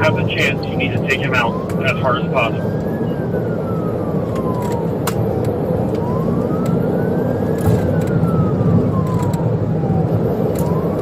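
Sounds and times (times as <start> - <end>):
police siren wailing: 0.0 - 11.0
road and engine noise: 0.0 - 11.0.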